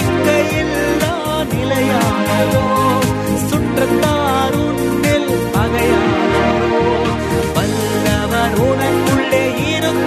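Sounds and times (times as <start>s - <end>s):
electronic keyboard with beat: 0.0s - 10.0s
man singing: 0.0s - 10.0s.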